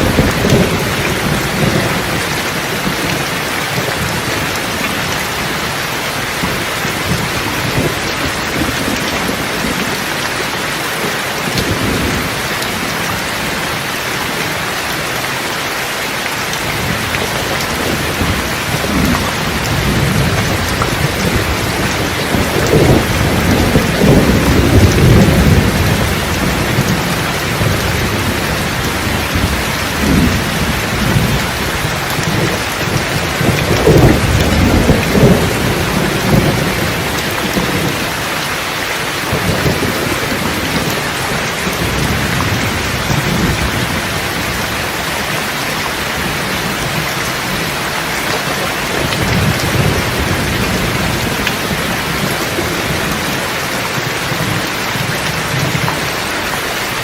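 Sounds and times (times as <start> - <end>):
rolling thunder: 0.0 - 10.4, 16.6 - 38.4, 39.2 - 56.3
steady rain: 0.0 - 57.0.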